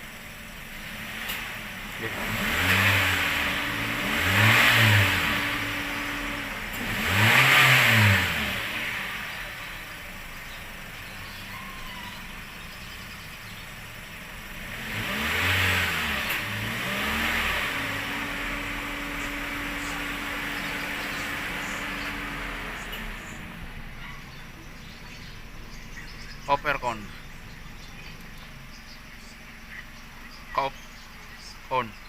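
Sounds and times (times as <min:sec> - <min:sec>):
car engine idling: 0:00.0 - 0:32.0
car engine revving in blips: 0:00.0 - 0:32.0.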